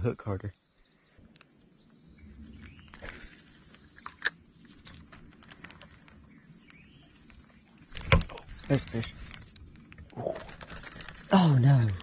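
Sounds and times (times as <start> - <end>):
rustling: 2.4 - 12.0.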